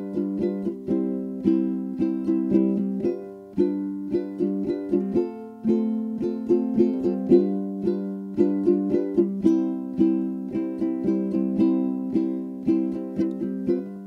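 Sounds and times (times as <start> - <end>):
plucked string instrument music: 0.0 - 14.0.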